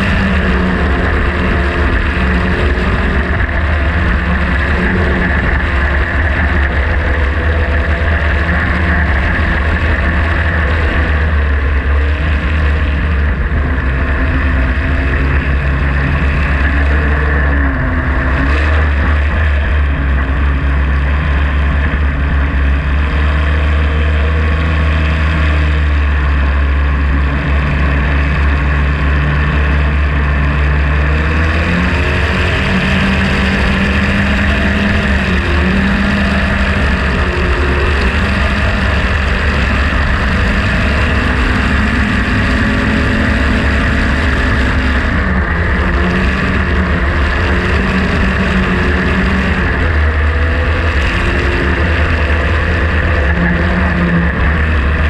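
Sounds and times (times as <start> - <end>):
racing boat engine at speed: 0.0 - 55.0.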